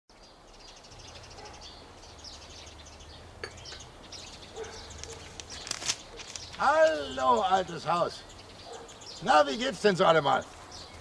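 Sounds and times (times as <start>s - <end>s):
songbirds chirping: 0.1s - 11.0s.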